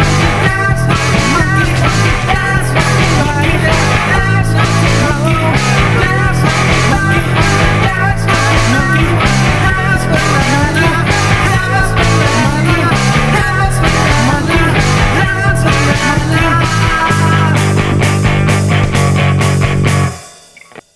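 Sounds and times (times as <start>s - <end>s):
person singing out of tune: 0.0s - 17.8s
bass guitar: 0.0s - 20.9s
distorted guitar: 0.0s - 20.9s
drums: 0.0s - 20.9s.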